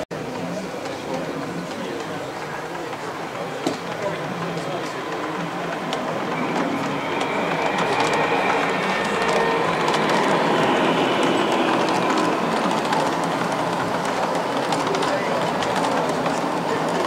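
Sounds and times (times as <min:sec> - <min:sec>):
model train wheels rumbling on rails: 0:00.2 - 0:17.0.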